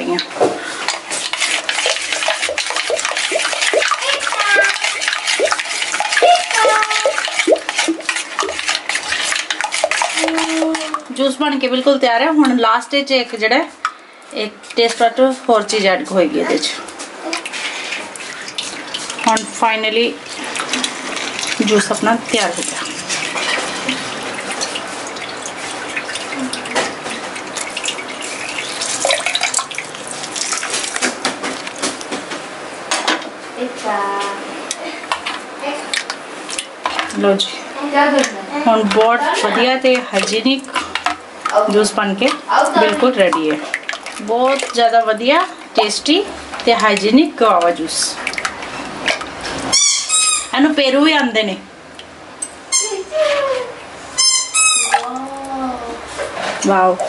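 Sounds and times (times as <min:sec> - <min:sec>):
liquid sloshing in a bowl: 0:00.2 - 0:13.0, 0:14.6 - 0:33.2, 0:34.7 - 0:51.4.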